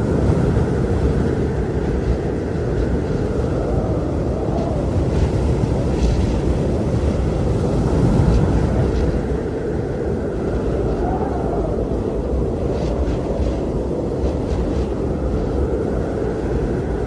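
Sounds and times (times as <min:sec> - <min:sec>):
blizzard wind rushing: 0:00.0 - 0:17.0
wind whistling: 0:00.0 - 0:17.0.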